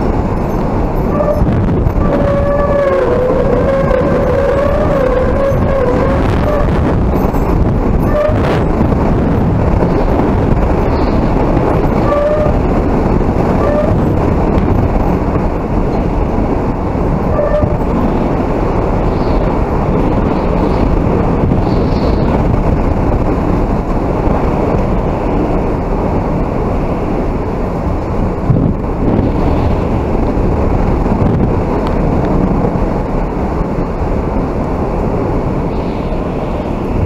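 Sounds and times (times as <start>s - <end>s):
strong gusting wind: 0.0s - 37.0s
wind buffeting microphone: 0.0s - 37.0s.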